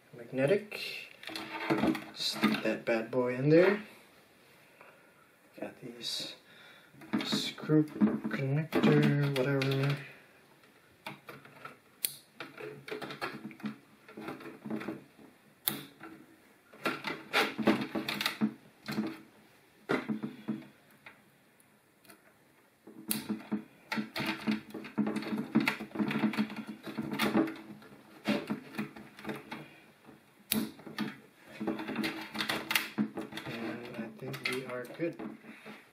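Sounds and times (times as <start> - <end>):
wires clicking and rattling: 1.1 - 3.8, 7.0 - 19.3, 22.0 - 35.9.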